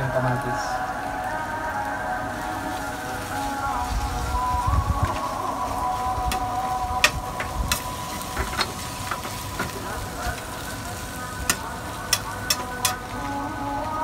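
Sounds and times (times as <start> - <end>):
meat sizzling: 0.0 - 14.0.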